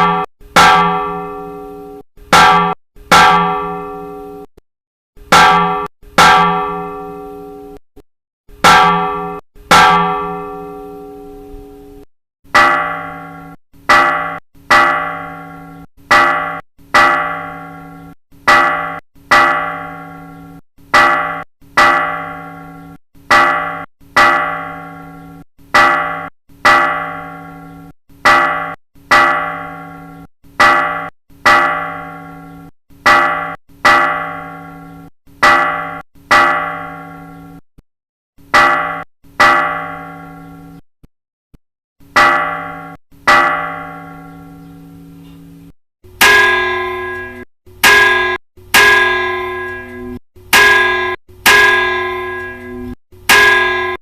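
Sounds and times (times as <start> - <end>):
church bell ringing: 0.0 - 4.5, 5.3 - 7.8, 8.6 - 12.0, 12.6 - 37.6, 38.6 - 40.7, 42.2 - 45.2, 46.1 - 54.0.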